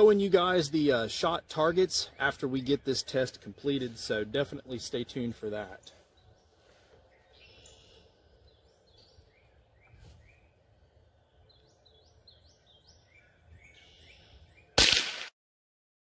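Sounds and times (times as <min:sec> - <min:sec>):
faint bird chirps: 0:01.9 - 0:14.8.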